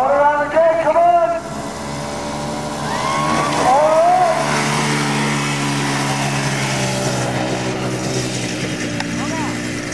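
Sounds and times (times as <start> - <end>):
small engine running: 1.2 - 9.9.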